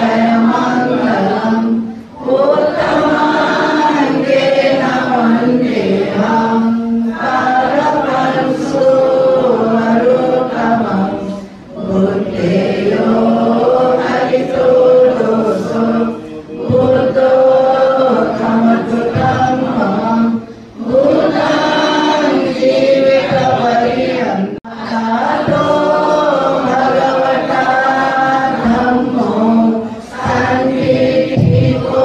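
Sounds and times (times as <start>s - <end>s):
congregation chanting in unison: 0.0s - 32.0s.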